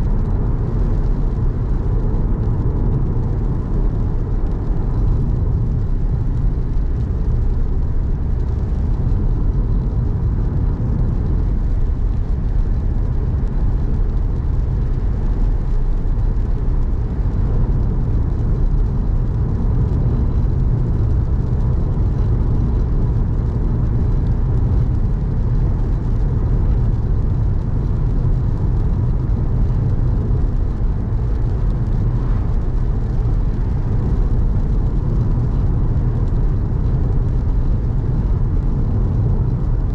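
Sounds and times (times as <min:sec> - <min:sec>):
car engine and road rumble: 0:00.0 - 0:39.9
faint steady whine: 0:00.0 - 0:39.9.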